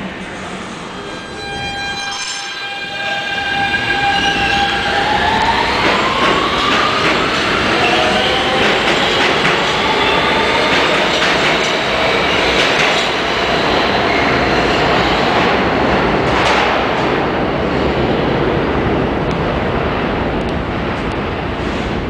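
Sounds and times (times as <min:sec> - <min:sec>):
train wheels rumbling on rail: 0:02.6 - 0:22.0.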